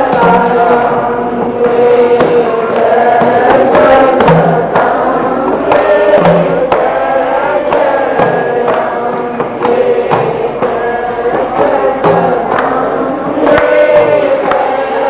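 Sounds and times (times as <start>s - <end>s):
hand drum strokes: 0.0s - 15.0s.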